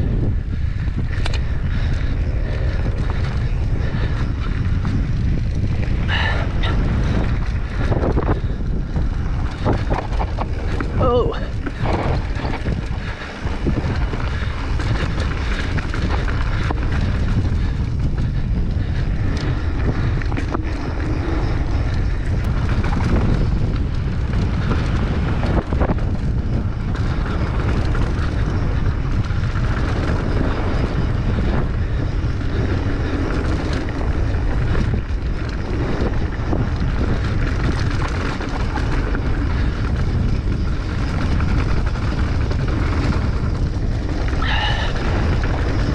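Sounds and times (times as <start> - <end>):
bike clicking and rattling: 0.0 - 45.9
wind buffeting microphone: 0.0 - 45.9.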